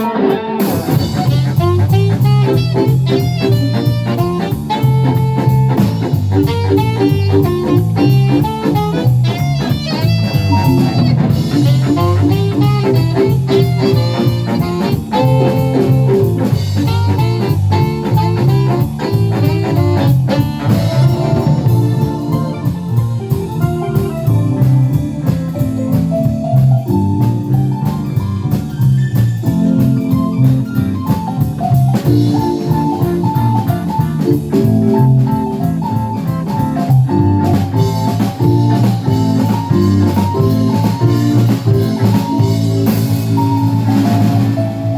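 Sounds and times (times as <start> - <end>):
live band playing jazzy song: 0.0 - 44.9.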